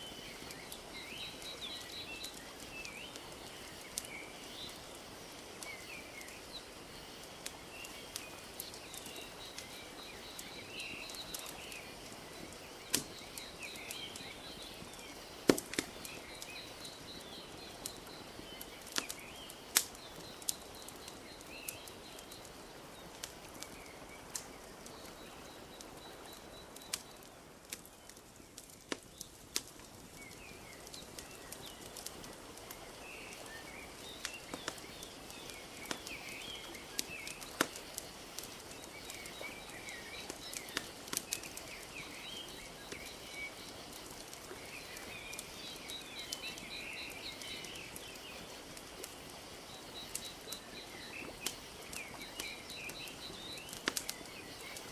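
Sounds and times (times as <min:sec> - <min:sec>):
small birds chirping: 0:00.0 - 0:54.9
wood fire crackling: 0:00.0 - 0:54.9.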